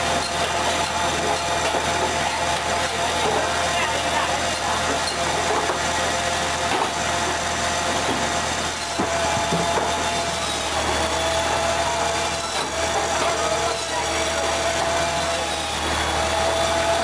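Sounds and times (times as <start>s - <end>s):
band saw cutting log: 0.0s - 17.0s
motor hum: 0.0s - 17.0s.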